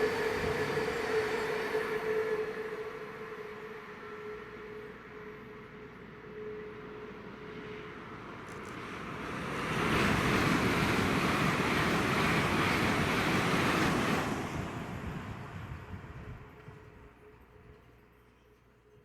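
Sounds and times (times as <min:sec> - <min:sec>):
train passing at speed: 0:00.0 - 0:18.1.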